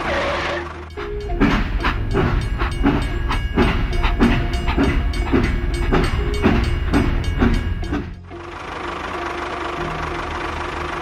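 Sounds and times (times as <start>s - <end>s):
toy locomotive chugging: 0.0s - 11.0s.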